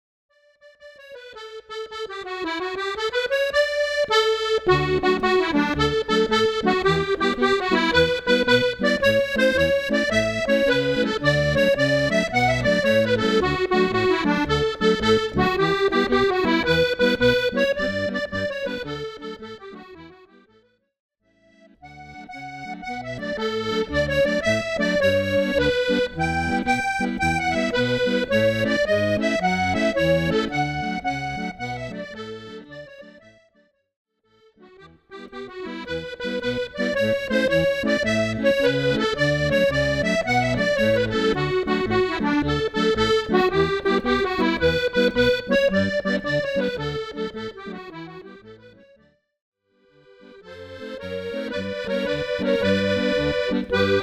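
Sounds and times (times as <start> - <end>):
accordion playing a jig: 0.4 - 33.7, 34.3 - 49.2, 49.8 - 54.0.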